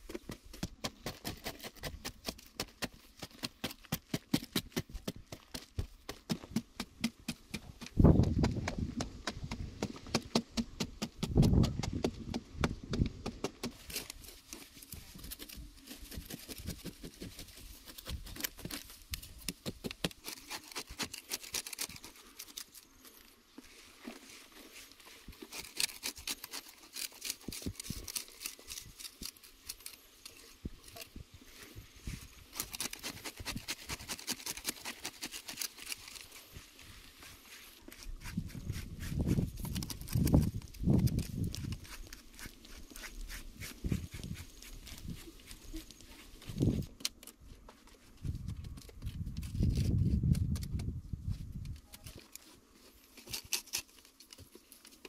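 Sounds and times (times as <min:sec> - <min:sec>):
blade scraping into dry clay: 0:00.1 - 0:22.9, 0:24.1 - 0:31.1, 0:32.4 - 0:47.4, 0:51.6 - 0:55.0.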